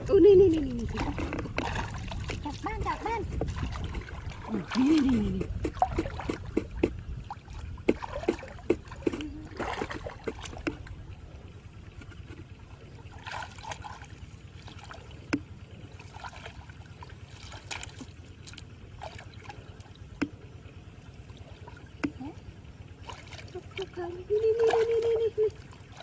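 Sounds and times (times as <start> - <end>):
shallow water sloshing: 0.0 - 26.0
steady low rumble: 0.0 - 26.0
water splashing: 0.0 - 26.0.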